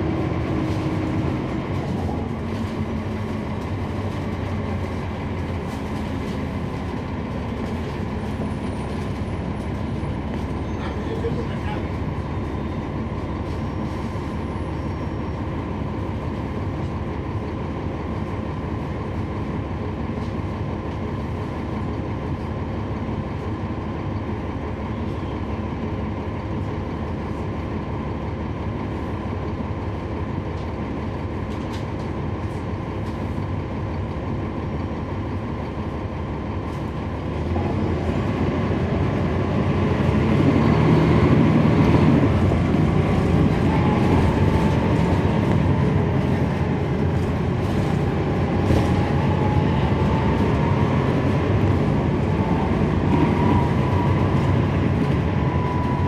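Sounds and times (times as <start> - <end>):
bus diesel engine running: 0.0 - 56.0
road rumble: 0.0 - 56.0.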